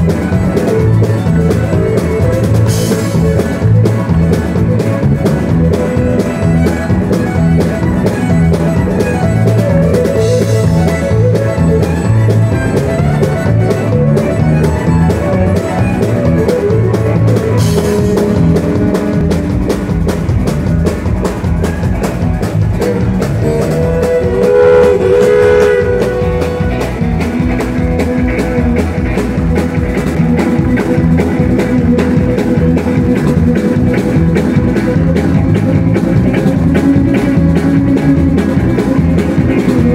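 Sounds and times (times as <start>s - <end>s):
country band playing: 0.0s - 39.9s
fiddle lead: 0.0s - 39.9s.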